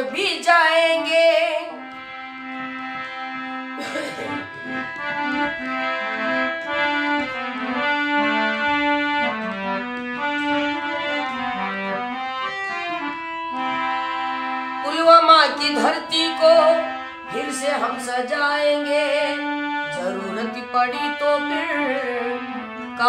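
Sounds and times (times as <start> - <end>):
reedy keyboard melody: 0.0 - 23.0.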